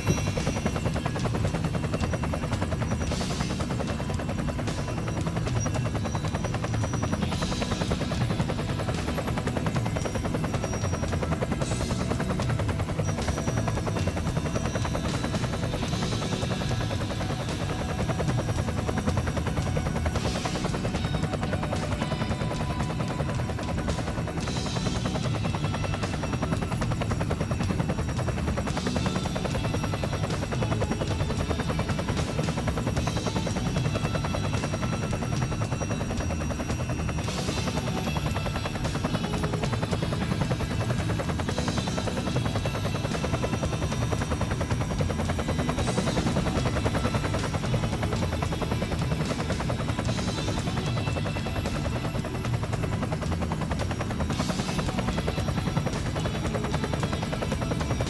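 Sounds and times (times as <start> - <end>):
rc helicopter rotor chop: 0.0 - 58.0.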